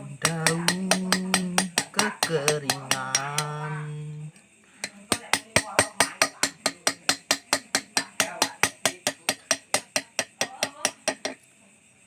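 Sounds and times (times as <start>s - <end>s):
chisel clicking on metal: 0.2s - 3.8s, 4.8s - 11.4s.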